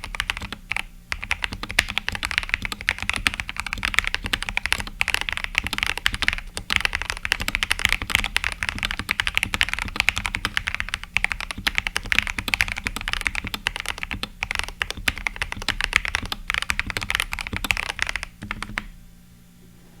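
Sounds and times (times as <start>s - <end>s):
mechanical keyboard typing: 0.0s - 19.0s.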